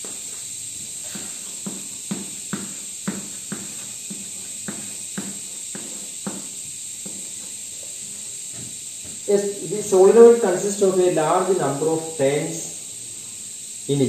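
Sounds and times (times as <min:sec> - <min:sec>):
chalk strokes on chalkboard: 0:00.0 - 0:13.5
steady hiss: 0:00.0 - 0:14.0.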